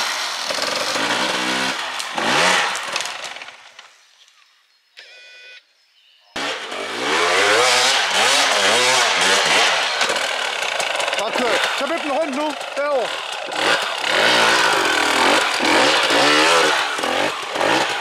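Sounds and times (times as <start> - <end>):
motorcycle engine revving: 0.0 - 3.7, 6.4 - 18.0.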